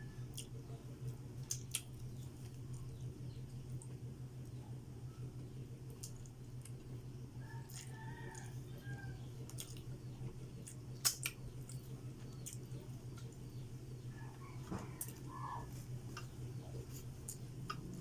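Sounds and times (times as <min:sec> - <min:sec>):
steady low hum: 0:00.0 - 0:18.0
faint chewing: 0:00.2 - 0:03.1, 0:05.9 - 0:18.0.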